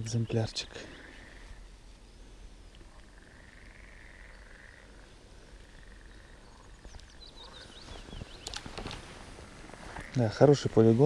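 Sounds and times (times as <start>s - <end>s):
frogs trilling: 0.0s - 8.7s, 9.9s - 10.8s.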